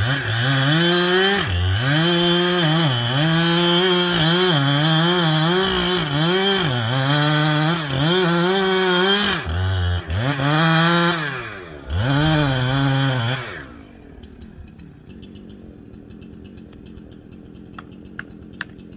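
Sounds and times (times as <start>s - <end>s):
chainsaw cutting wood: 0.0s - 18.9s.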